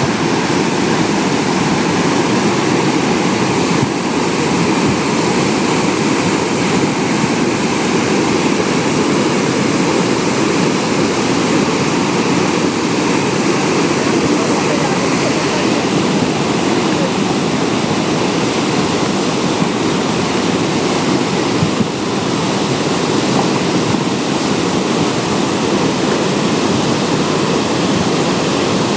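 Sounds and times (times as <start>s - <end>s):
floodwater rushing in a river: 0.0s - 28.9s.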